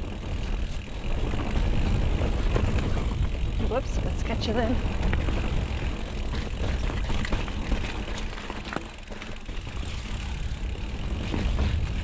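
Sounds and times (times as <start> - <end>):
bike clicks and rattles: 0.0 - 12.0
wind and tyre rumble: 0.0 - 12.0.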